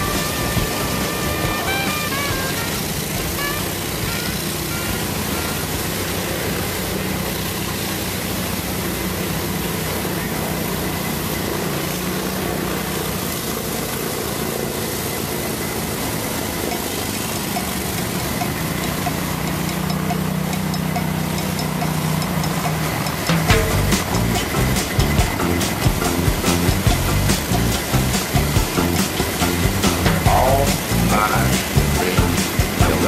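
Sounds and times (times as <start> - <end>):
vehicle engines droning: 0.0 - 33.0.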